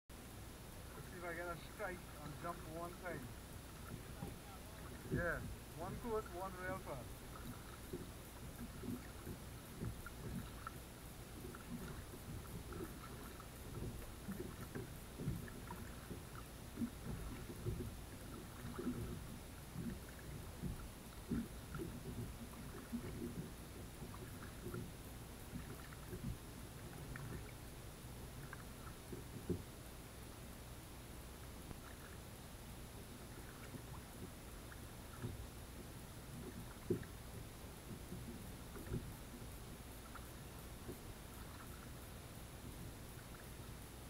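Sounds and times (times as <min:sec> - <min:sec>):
water lapping against kayak hull: 0:00.4 - 0:44.0.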